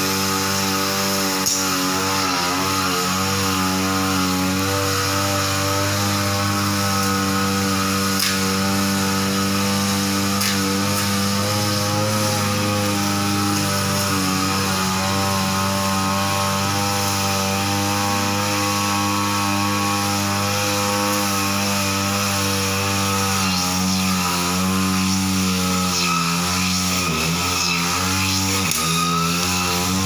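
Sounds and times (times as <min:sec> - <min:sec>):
brush cutter engine running: 0:00.0 - 0:30.0
trimmer head cutting grass: 0:00.0 - 0:30.0.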